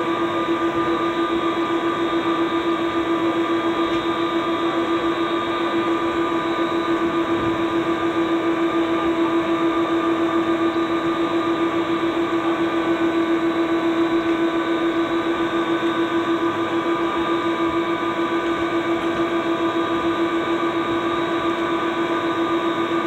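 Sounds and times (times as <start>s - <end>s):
jet engines droning: 0.0s - 23.0s.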